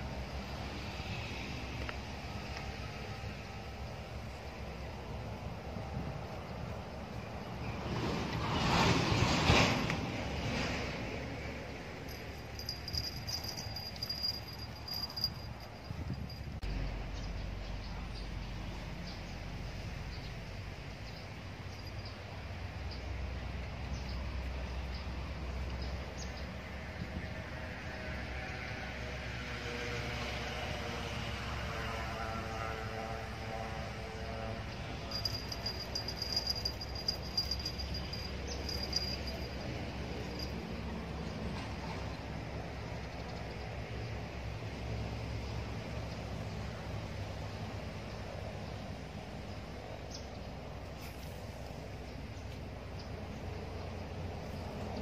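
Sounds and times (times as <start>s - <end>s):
low outdoor rumble: 0.0s - 29.2s, 30.4s - 55.0s.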